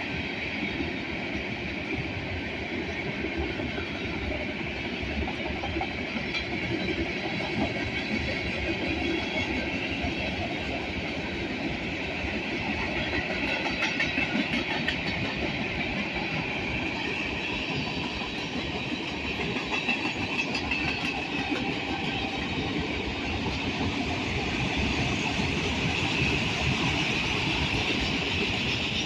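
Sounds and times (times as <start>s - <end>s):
freight train rumble: 0.0s - 29.0s.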